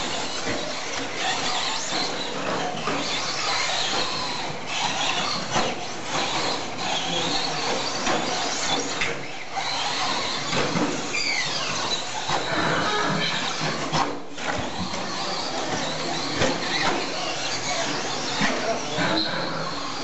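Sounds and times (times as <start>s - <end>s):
radio-controlled trucks whining: 0.0s - 20.0s.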